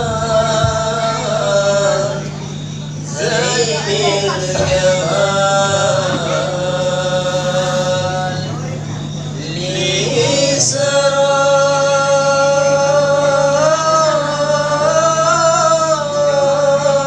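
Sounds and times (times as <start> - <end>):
person singing a long note: 0.0 - 17.0.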